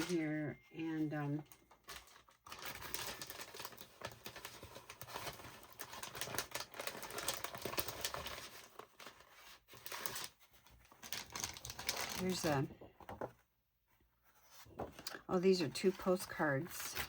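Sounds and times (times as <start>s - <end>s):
paper rustling and crinkling: 1.4s - 13.4s, 14.2s - 17.0s.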